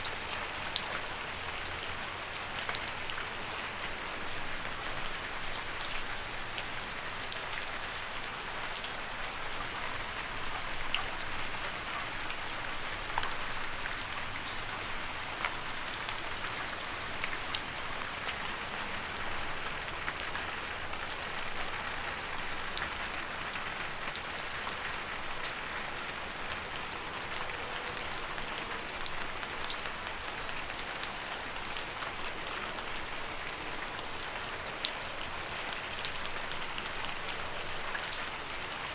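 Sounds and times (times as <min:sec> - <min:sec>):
raindrops striking close by: 0:00.0 - 0:38.9
steady rain hiss: 0:00.0 - 0:38.9.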